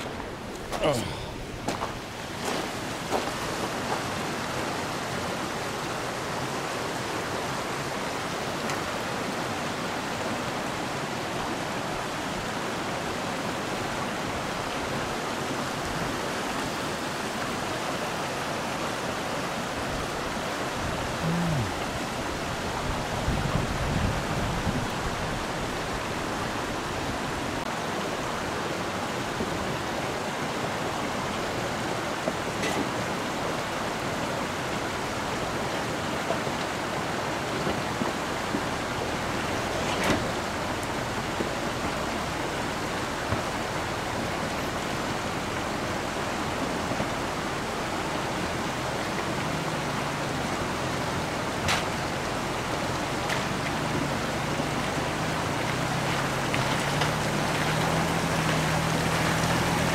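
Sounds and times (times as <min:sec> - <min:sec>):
creek flowing over stones: 0:00.0 - 0:59.9.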